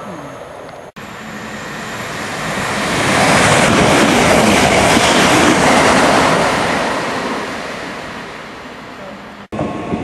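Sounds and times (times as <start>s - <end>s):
train wheels rumbling on rails: 1.0s - 10.0s.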